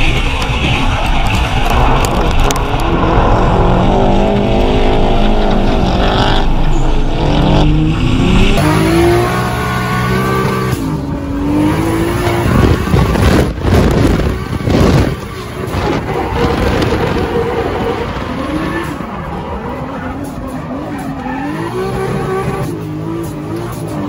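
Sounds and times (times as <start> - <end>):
car engines at high revs: 0.0 - 24.0.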